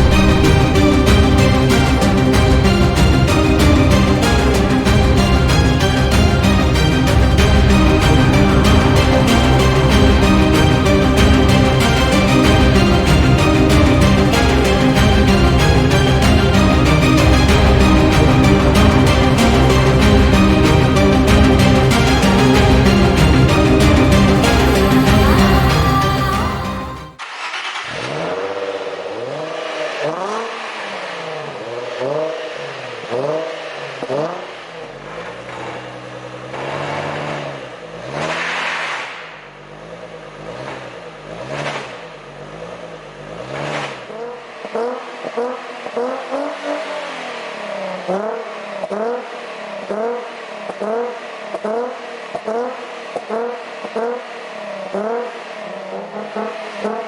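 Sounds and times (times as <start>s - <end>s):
car engine revving: 0.0s - 26.9s, 27.8s - 57.0s.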